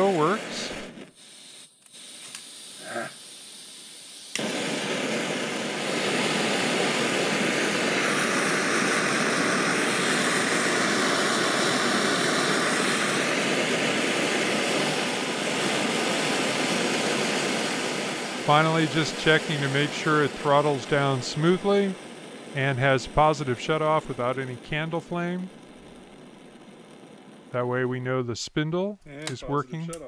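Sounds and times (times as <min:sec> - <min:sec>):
stove burner rushing hiss: 0:00.0 - 0:29.9.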